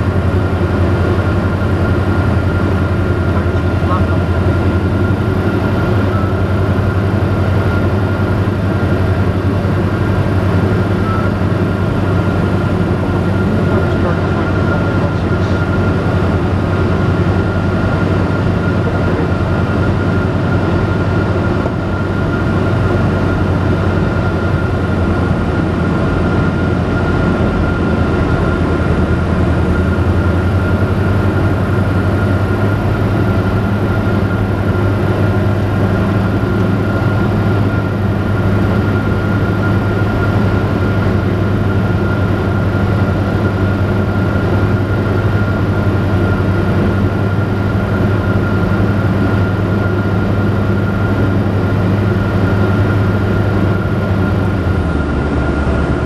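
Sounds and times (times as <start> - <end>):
propeller engine droning: 0.0 - 56.0
thin steady whine: 0.0 - 56.0.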